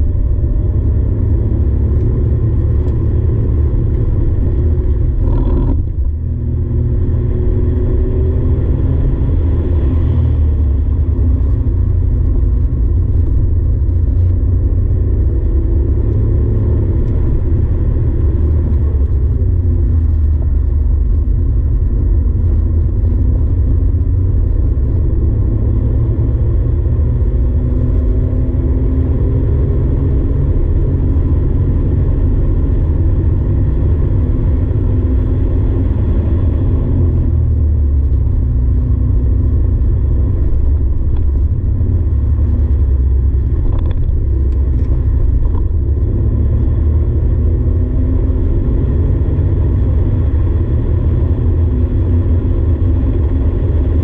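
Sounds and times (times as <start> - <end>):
car engine revving: 0.0 - 54.0
road noise: 0.0 - 54.0.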